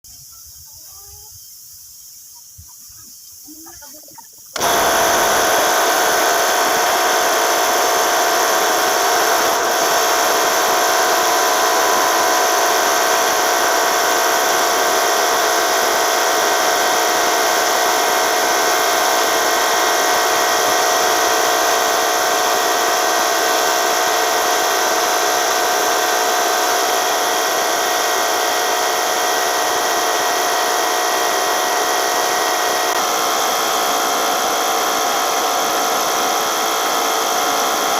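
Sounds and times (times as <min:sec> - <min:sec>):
paint sprayer motor whining: 0:04.5 - 0:37.9.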